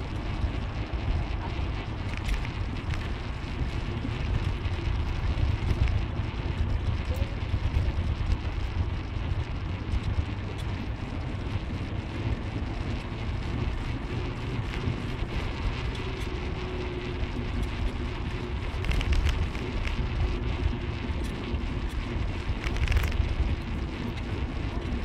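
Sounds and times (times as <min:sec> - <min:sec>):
loud crackle: 0:00.0 - 0:25.0
wind noise: 0:00.0 - 0:25.0.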